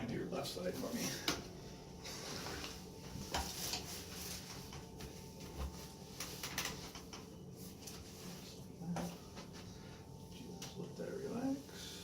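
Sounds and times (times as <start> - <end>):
rustling on treatment table: 2.0 - 11.9.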